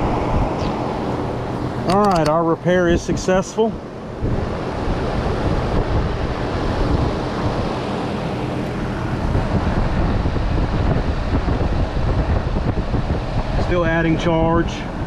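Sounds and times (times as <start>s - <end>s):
fan air rushing: 0.0s - 15.0s
low hum of heat pump: 0.0s - 15.0s.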